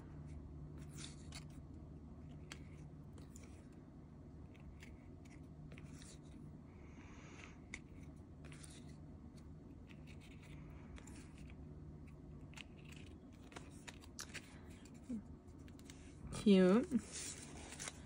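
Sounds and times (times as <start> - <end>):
low steady hum: 0.0 - 18.0
cards flipped rubbing and clicking: 0.7 - 6.5, 7.4 - 16.1, 16.9 - 18.0.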